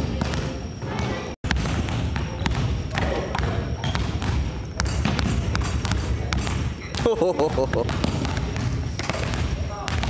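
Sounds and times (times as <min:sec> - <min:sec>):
basketballs bouncing on wooden floor: 0:00.0 - 0:10.0.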